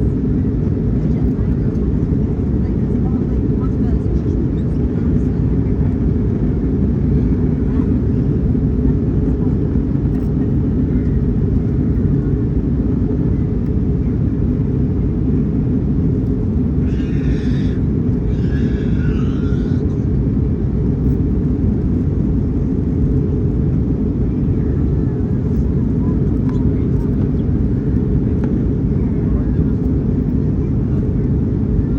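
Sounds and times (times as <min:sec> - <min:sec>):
jet airliner engine rumble: 0:00.0 - 0:31.9.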